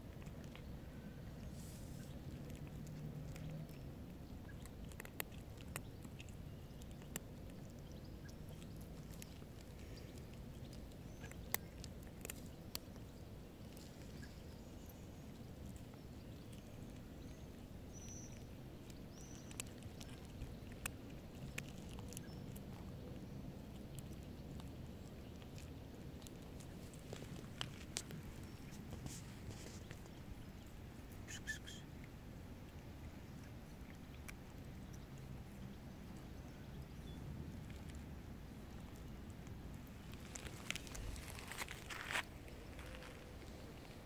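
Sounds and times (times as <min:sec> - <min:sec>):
cat crunching dry kibble: 0:00.0 - 0:31.3, 0:31.9 - 0:36.4, 0:37.2 - 0:44.0
low background noise: 0:00.0 - 0:44.0.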